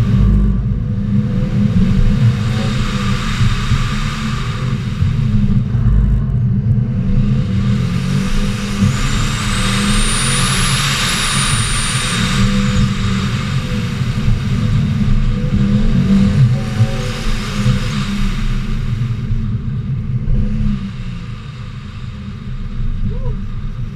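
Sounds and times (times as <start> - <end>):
car engine droning: 0.0 - 23.9
road and wind noise: 0.0 - 23.9.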